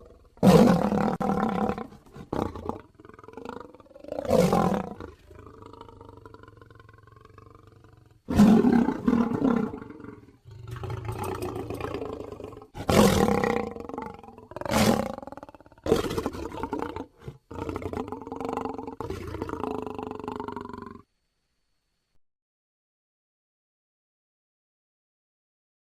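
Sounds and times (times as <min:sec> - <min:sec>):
lion roaring: 0:00.0 - 0:21.0.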